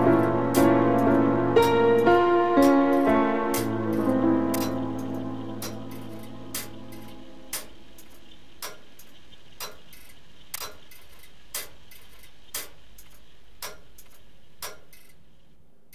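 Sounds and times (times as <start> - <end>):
clock ticking: 0.0 - 15.2
faint steady hiss: 0.0 - 15.9.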